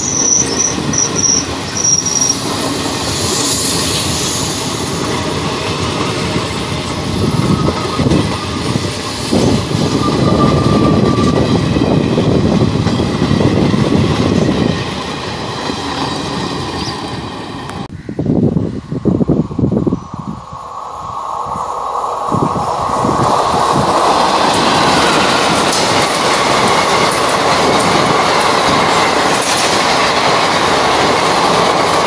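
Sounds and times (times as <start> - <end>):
train wheels rumbling and rattling: 0.0 - 32.0.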